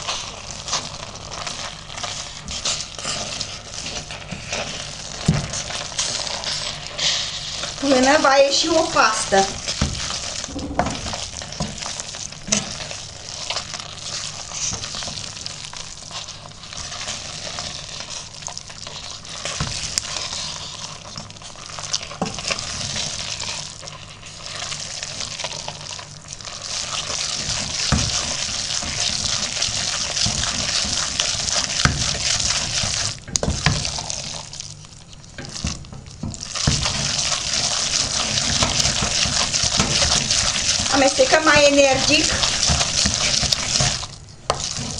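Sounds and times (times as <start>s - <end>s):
wet stirring noise: 0.0s - 44.9s.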